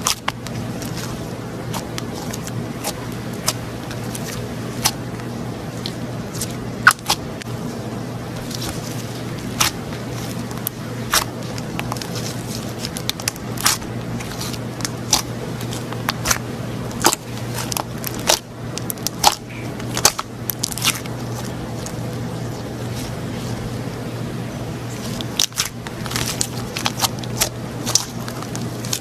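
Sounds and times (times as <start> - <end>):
slime crackling and popping: 0.0 - 7.5, 8.3 - 23.6, 24.9 - 29.0.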